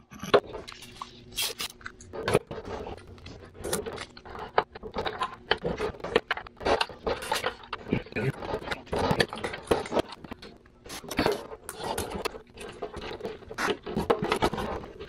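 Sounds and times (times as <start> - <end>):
plastic and metal clicks and scrapes: 0.1 - 15.0.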